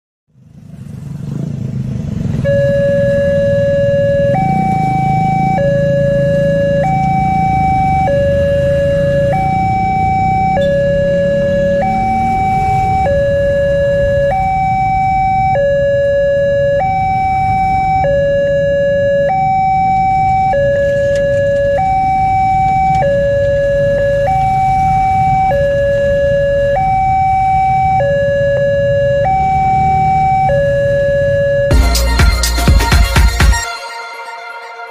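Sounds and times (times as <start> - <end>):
level crossing two-tone alarm: 2.4 - 34.9.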